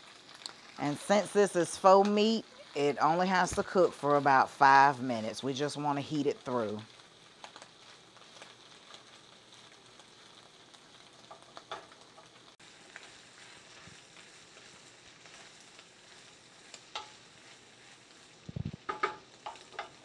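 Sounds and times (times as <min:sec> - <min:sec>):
food sizzling in a skillet: 0:00.0 - 0:20.0.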